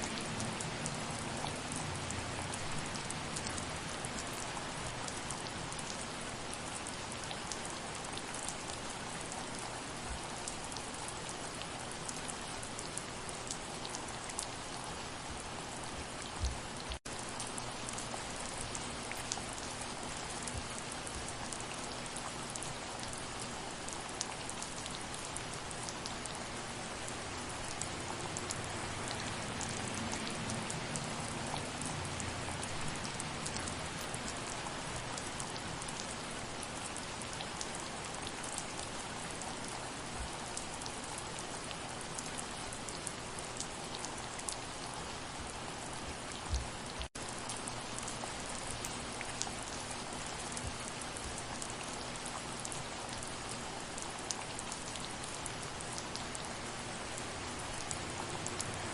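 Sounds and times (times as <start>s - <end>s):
soft rain hissing: 0.0s - 58.9s.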